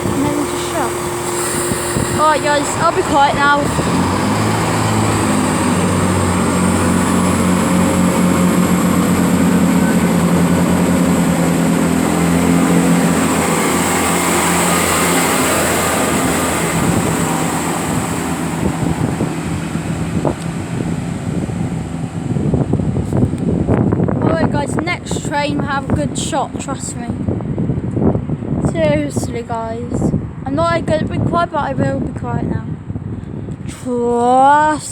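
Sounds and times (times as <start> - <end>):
diesel train engines pulling away: 0.0 - 34.2.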